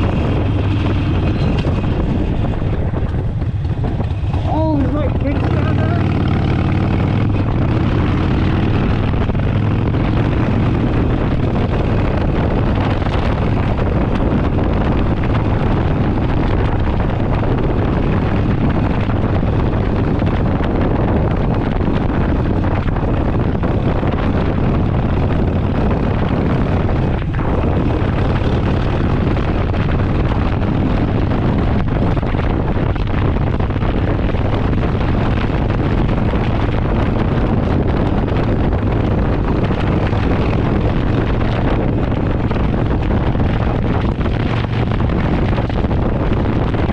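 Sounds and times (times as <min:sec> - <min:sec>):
motorcycle engine running: 0:00.0 - 0:46.9
wind on microphone: 0:00.0 - 0:46.9.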